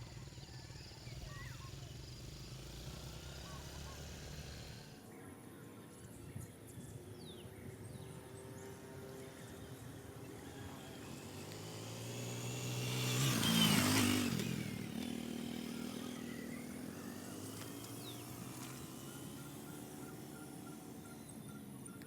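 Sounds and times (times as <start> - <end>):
motorcycle engine passing by: 0.0 - 5.2, 6.8 - 22.0.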